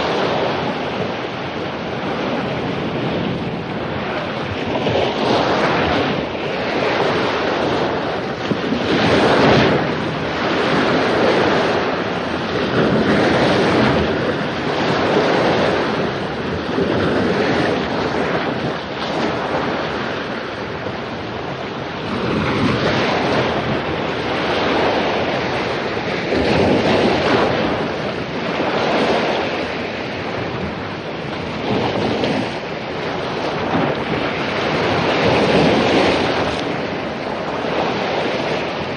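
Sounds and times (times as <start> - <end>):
ocean waves crashing on beach: 0.0 - 38.9
wind: 0.0 - 38.9.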